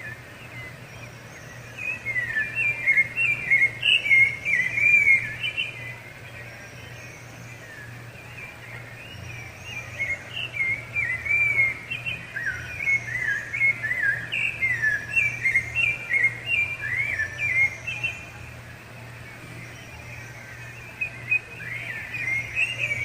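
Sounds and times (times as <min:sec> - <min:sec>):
thrush singing fluty whistles: 0:00.0 - 0:18.5, 0:19.3 - 0:23.0.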